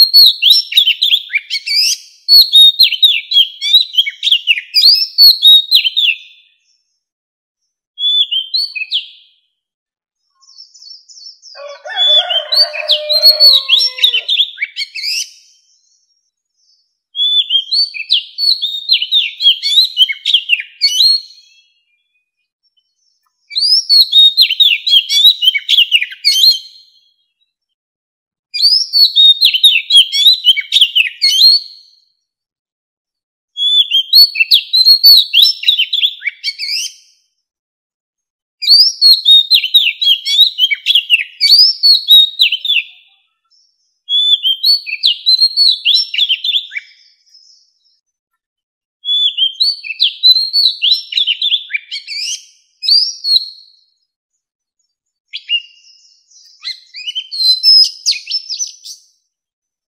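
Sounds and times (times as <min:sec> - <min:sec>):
bird song whistled notes: 0:00.0 - 0:27.7, 0:28.5 - 0:32.3, 0:33.5 - 0:37.3, 0:38.6 - 0:48.1, 0:49.0 - 0:59.4.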